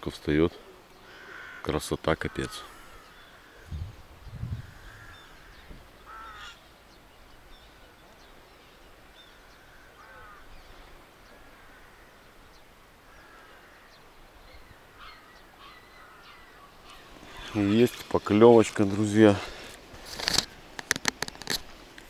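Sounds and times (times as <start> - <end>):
faint birds calling: 0.0 - 21.5.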